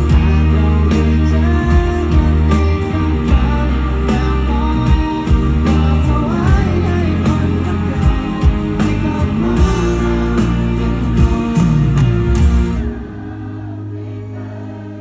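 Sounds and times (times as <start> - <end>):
bass and drums: 0.0 - 13.4
electric guitar: 0.0 - 13.4
person singing: 0.0 - 15.0.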